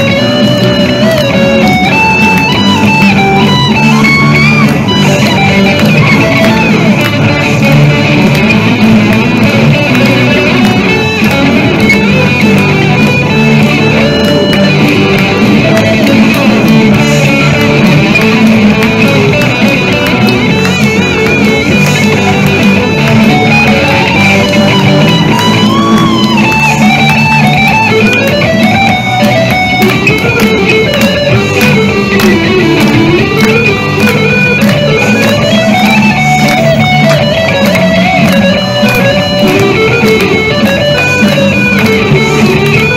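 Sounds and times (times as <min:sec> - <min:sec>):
electric guitar lead melody: 0:00.0 - 0:42.9
electric guitar rhythm part: 0:00.0 - 0:42.9.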